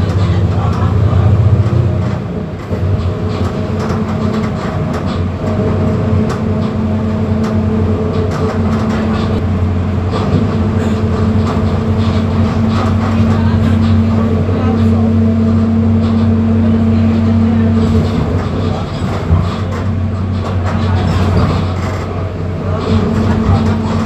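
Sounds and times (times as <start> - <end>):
bus body rattling: 0.0 - 24.0
bus diesel engine drone: 0.0 - 24.0.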